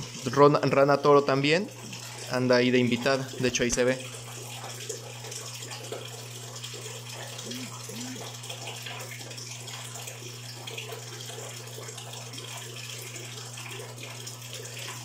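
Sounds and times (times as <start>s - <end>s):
low pump hum: 0.0s - 15.0s
running water: 0.0s - 15.0s.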